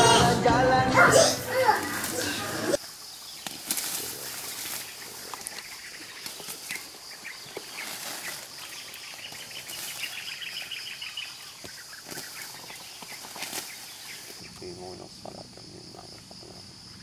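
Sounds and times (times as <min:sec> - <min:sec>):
rustling of leaves: 0:01.5 - 0:16.6
rapid insect chirps: 0:02.0 - 0:17.0.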